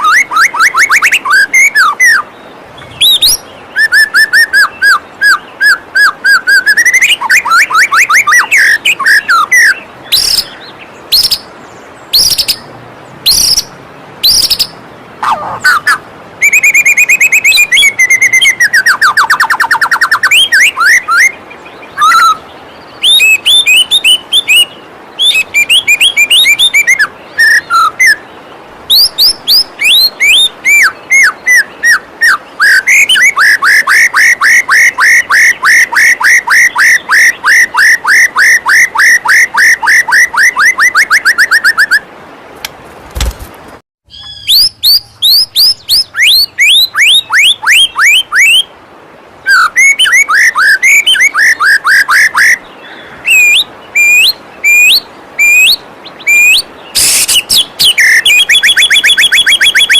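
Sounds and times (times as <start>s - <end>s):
bird singing trills and whistles: 0.0s - 42.1s, 44.1s - 48.7s, 49.4s - 59.9s.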